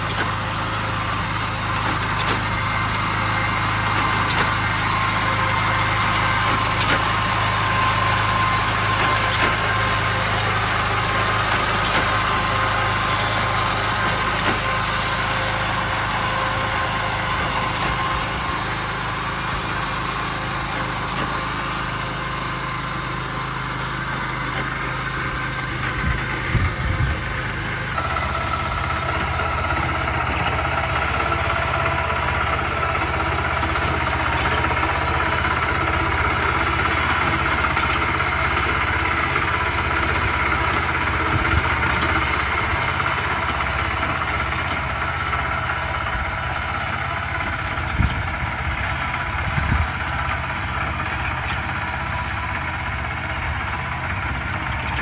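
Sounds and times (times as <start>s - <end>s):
machine engine running: 0.0s - 55.0s.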